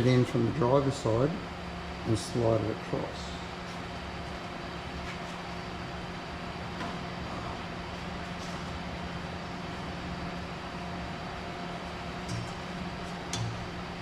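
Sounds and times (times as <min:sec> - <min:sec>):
machinery fan hum and hiss: 0:00.0 - 0:14.0.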